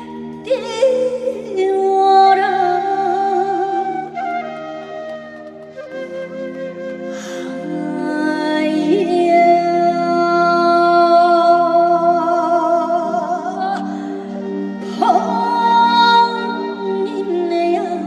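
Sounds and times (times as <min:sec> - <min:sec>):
woman singing: 0:00.0 - 0:05.0, 0:05.9 - 0:18.0
instrumental accompaniment: 0:00.0 - 0:18.0.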